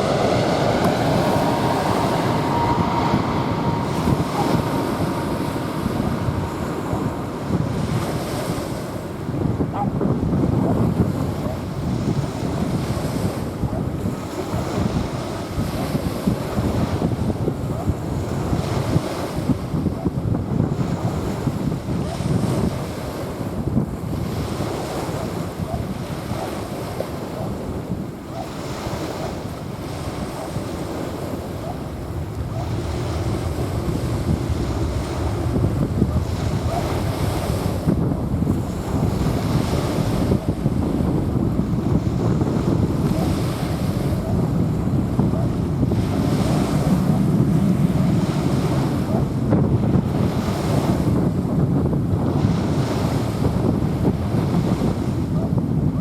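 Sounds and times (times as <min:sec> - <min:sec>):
small waves washing on sand: 0:00.0 - 0:56.0
wind rumbling on microphone: 0:00.0 - 0:56.0.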